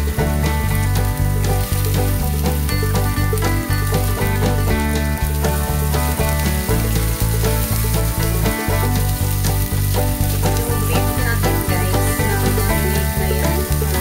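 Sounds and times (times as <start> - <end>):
background music with bass line: 0.0 - 14.0
food sizzling in oil: 0.0 - 14.0.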